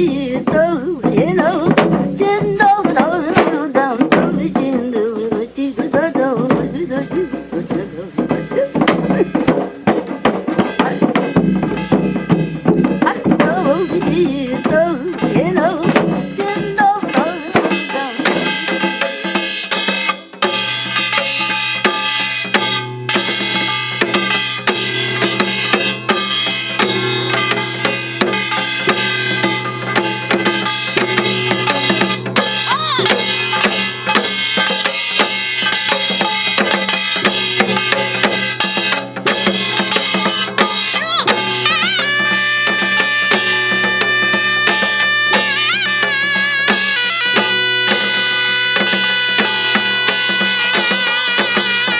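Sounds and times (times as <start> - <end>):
dense drum strokes: 0.0 - 51.9
wavering melodic lines: 0.0 - 51.9.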